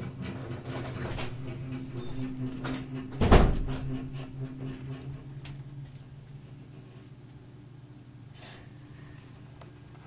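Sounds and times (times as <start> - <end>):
water heater humming: 0.0 - 10.0.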